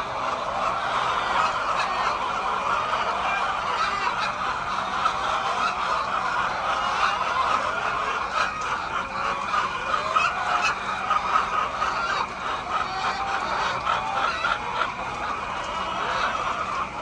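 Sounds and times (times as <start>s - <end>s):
flock of hens clucking: 0.0s - 17.0s.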